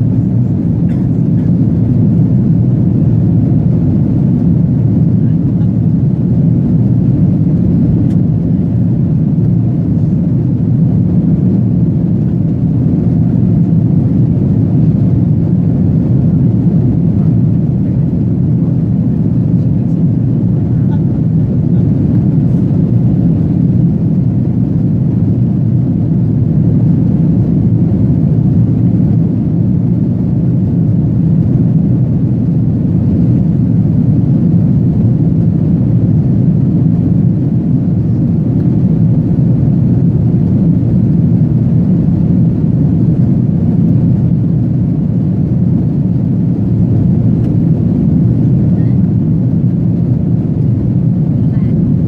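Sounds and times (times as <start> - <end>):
jet engines and rushing airflow: 0.0 - 52.0.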